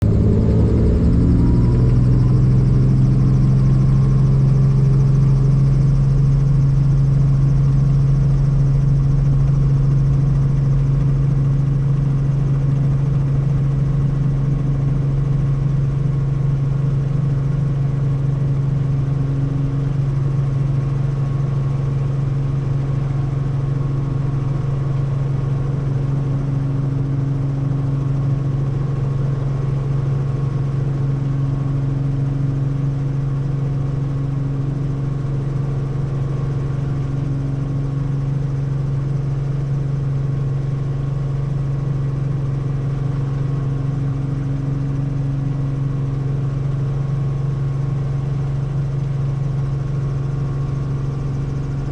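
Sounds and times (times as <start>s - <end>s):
helicopter drone: 0.0s - 51.9s.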